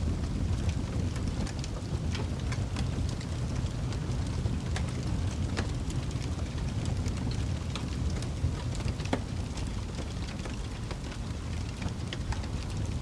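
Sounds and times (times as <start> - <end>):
fire pops and snaps: 0.0 - 13.0
wood fire rumbling: 0.0 - 13.0.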